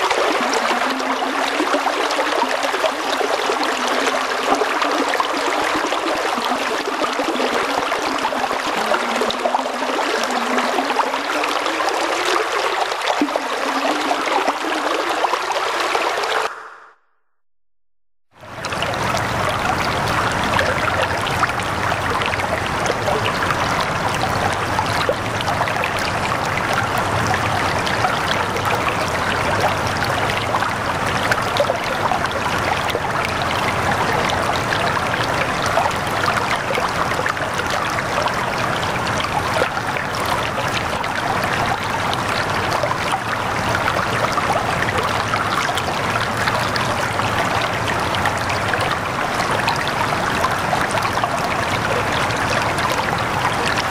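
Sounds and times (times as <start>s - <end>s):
running water babbling: 0.0s - 16.5s, 18.4s - 53.9s.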